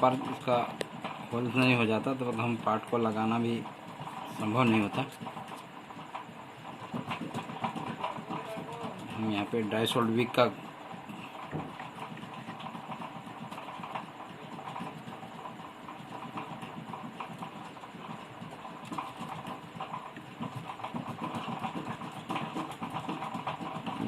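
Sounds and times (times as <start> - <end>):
faint ticking and scratching: 0.0 - 24.0.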